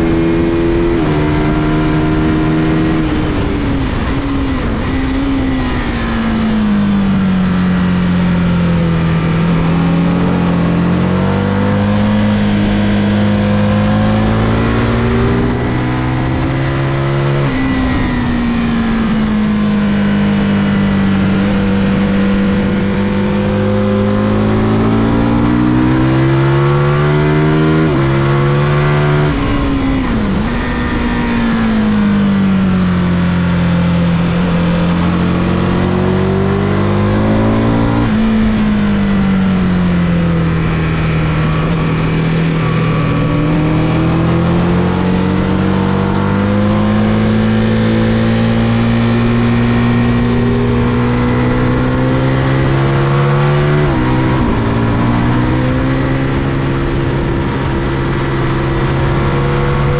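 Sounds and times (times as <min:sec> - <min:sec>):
motorcycle engine at full throttle: 0:00.0 - 0:59.9
rushing wind noise: 0:00.0 - 0:59.9.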